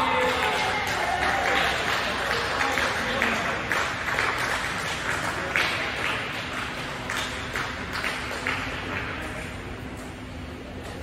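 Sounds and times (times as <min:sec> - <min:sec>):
people clapping: 0:00.0 - 0:10.2.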